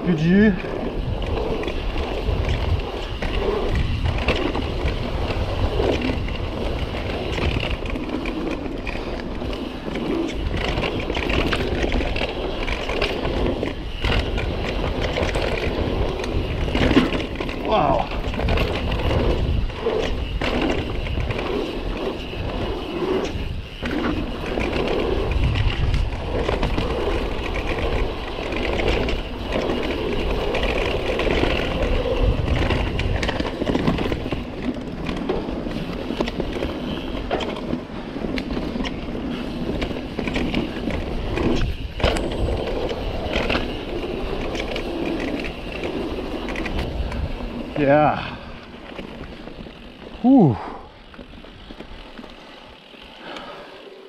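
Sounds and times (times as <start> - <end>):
bike tyres rolling over dirt: 0.0 - 54.0
bike knocks and rattles: 0.6 - 53.4.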